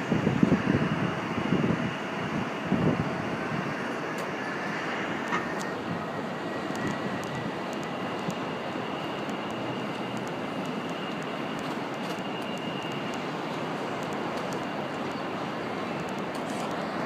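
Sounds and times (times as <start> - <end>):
distant jet engine rumble: 0.0 - 17.0.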